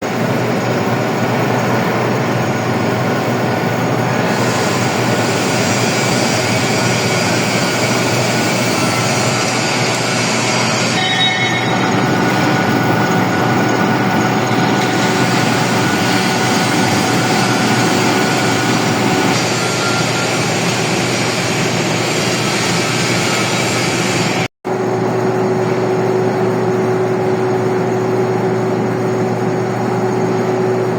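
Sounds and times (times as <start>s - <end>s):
steady hum: 0.1s - 24.9s
metal lathe running: 0.1s - 30.9s.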